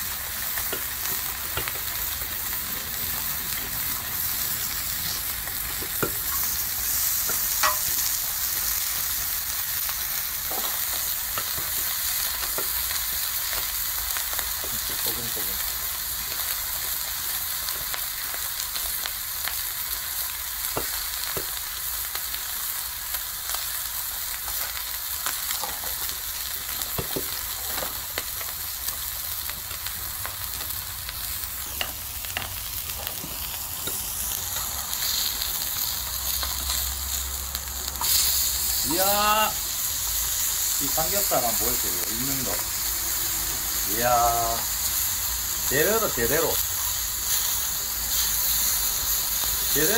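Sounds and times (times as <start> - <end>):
meat sizzling on a griddle: 0.0 - 49.9.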